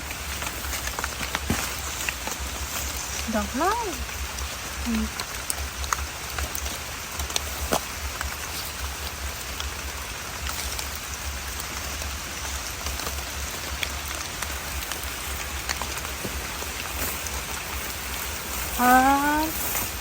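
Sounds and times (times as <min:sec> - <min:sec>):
sharp ticks of raindrops: 0:00.0 - 0:20.0
steady rain falling: 0:00.0 - 0:20.0.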